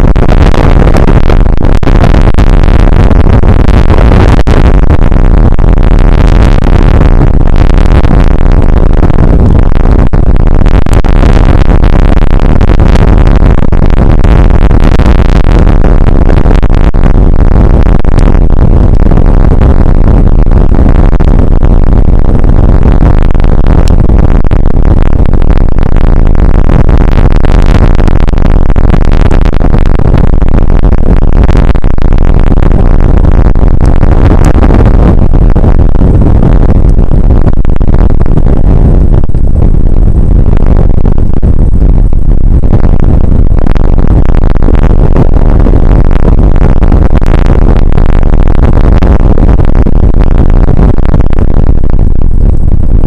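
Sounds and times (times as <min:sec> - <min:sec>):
rain and wind rushing noise: 0:00.0 - 0:53.0.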